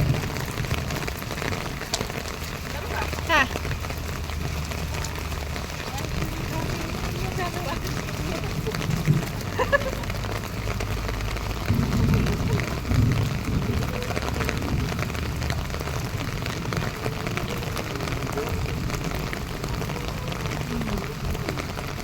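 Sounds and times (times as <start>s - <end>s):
heavy rain pattering: 0.0s - 22.0s
low rumble: 0.0s - 22.0s.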